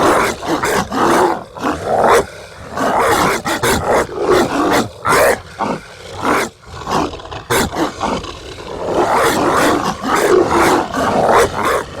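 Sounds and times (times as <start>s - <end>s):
dog growling: 0.0s - 12.0s
harsh rasping dog barks: 0.0s - 12.0s.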